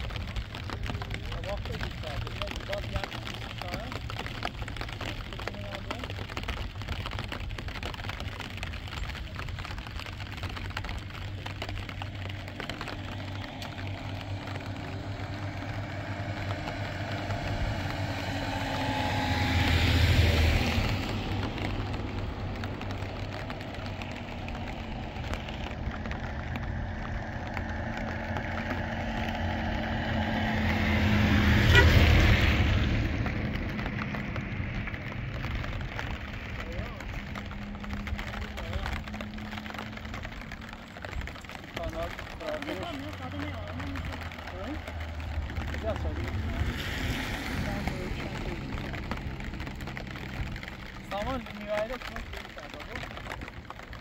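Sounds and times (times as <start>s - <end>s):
car engine: 0.0s - 54.0s
road noise: 0.0s - 54.0s.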